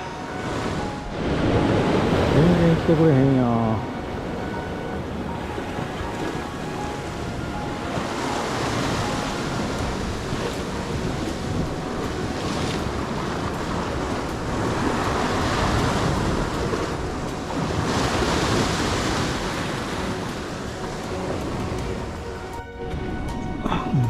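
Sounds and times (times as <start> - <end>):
waves washing against rocks: 0.0 - 22.6
wind buffeting microphone: 0.0 - 24.0.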